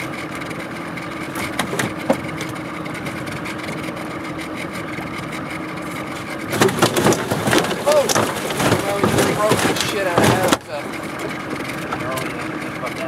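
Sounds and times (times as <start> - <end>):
outboard motor idling: 0.0 - 13.0
loud clatter: 1.3 - 13.0.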